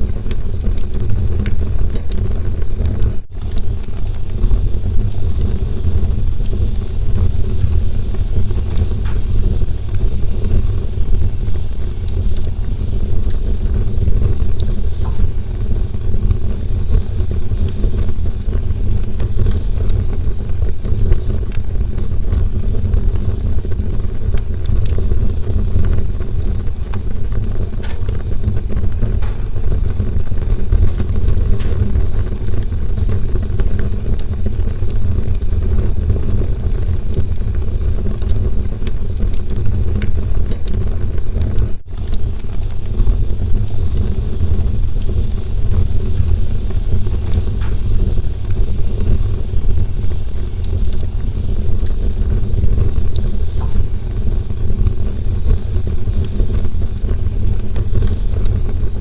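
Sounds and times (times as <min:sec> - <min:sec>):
campfire burning: 0:00.0 - 0:59.0.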